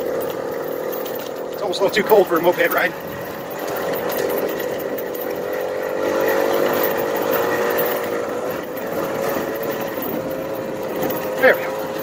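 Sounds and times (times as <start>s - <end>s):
moped engine running: 0.0s - 12.0s.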